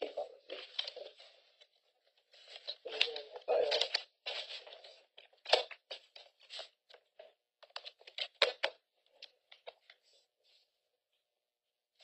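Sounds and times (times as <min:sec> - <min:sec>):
papers rustling and shuffling: 0:00.0 - 0:10.7.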